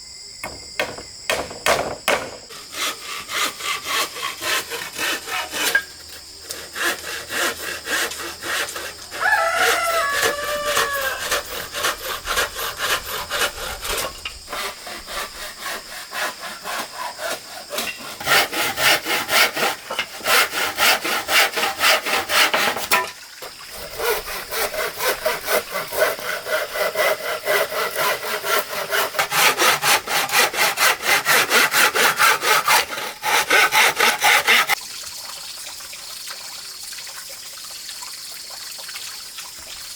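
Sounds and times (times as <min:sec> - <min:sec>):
hand saw cutting wood: 0:00.8 - 0:34.8.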